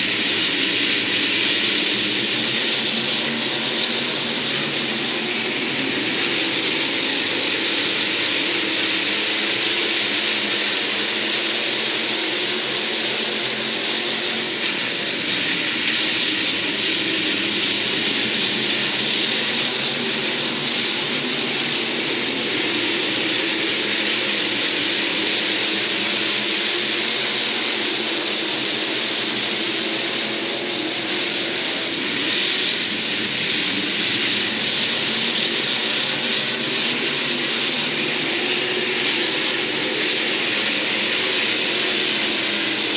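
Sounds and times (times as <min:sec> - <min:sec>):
race car engines roaring: 0:00.0 - 0:42.9.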